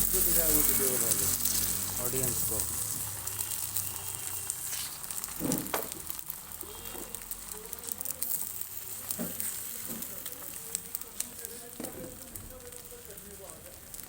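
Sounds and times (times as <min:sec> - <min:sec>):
oil sizzling on a griddle: 0:00.0 - 0:14.0.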